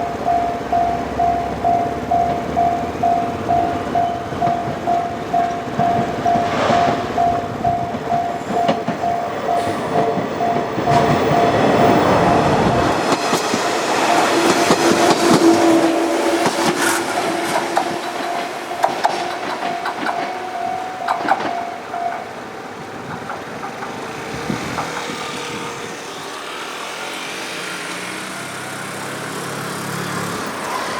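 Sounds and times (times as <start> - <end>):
crossing warning bell dinging: 0.0 - 30.9
electric train passing: 0.0 - 30.9
wheels clicking over rail joints: 0.0 - 30.9.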